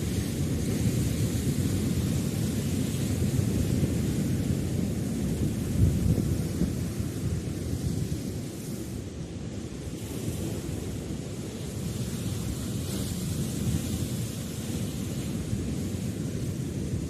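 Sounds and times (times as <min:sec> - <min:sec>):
sea surf on rocks: 0:00.0 - 0:17.0
wind buffeting microphone: 0:00.0 - 0:17.0.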